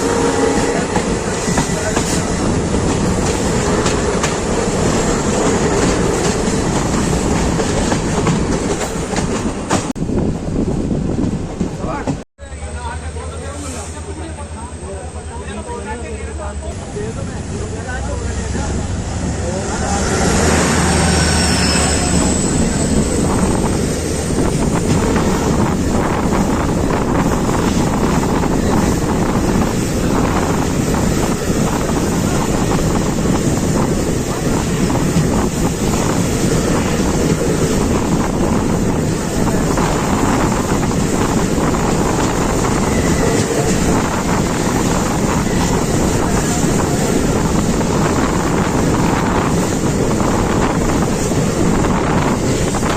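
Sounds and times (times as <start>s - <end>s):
wind rushing over microphone: 0.0s - 12.2s, 18.6s - 52.9s
train wheels rumbling on rails: 0.0s - 52.9s.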